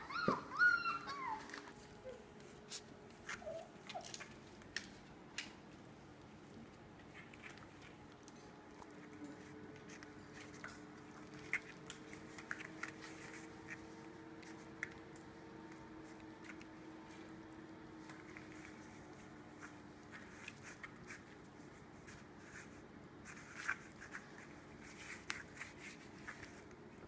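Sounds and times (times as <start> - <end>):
puppy scuffling on rubber mat: 0.0 - 4.8, 6.7 - 27.0.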